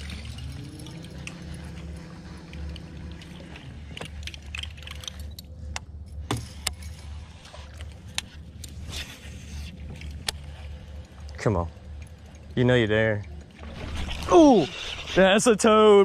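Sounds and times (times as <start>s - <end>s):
boat low hum: 0.0s - 16.0s.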